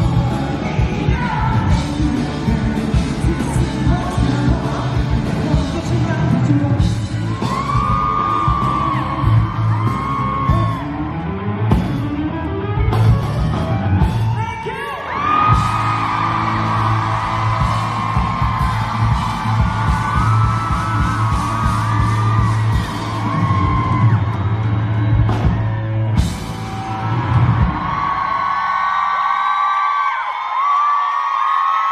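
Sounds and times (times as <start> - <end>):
audience yelling and whooping: 0.0 - 12.2, 13.6 - 31.9
live pop-rock band: 0.0 - 28.8.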